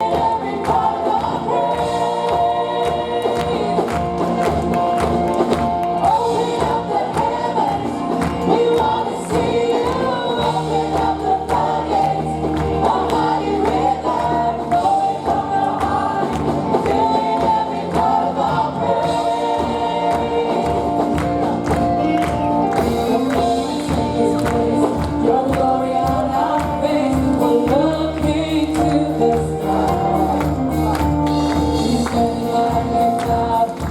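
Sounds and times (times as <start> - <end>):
band with steady beat: 0.0 - 33.9
choir and congregation singing: 0.0 - 33.9.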